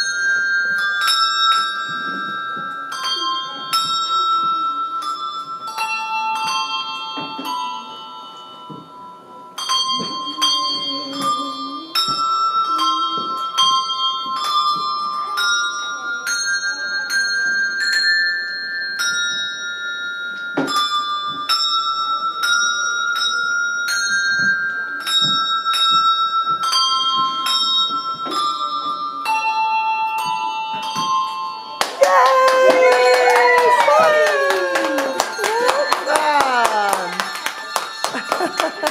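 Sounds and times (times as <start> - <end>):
handbells playing a tune: 0.0 - 38.9.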